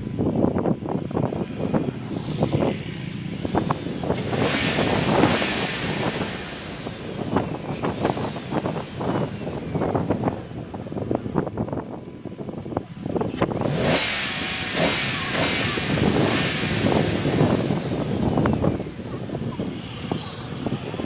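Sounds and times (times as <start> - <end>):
motorcycles idling and moving: 0.0 - 21.0
passing vehicle noise: 0.9 - 12.0, 13.4 - 21.0.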